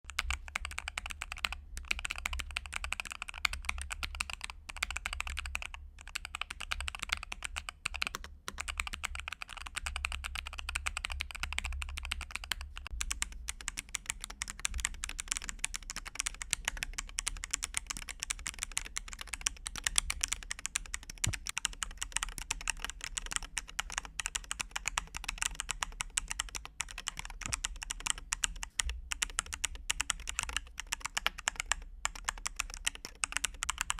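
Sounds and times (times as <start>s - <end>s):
mechanical keyboard typing: 0.1s - 33.9s.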